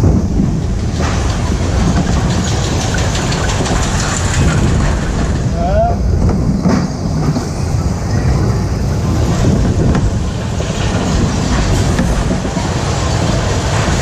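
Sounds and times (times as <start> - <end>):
coaster wheels rumbling on track: 0.0 - 14.0.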